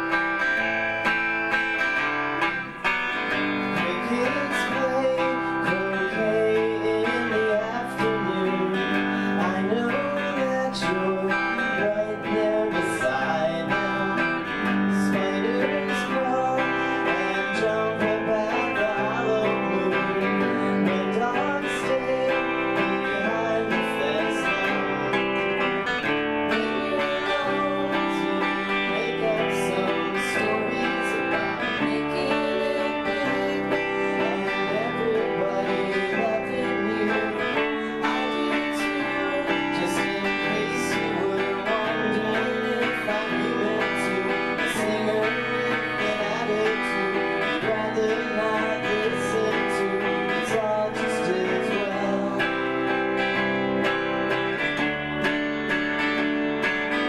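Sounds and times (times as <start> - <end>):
live band playing guitar song: 0.0 - 57.0.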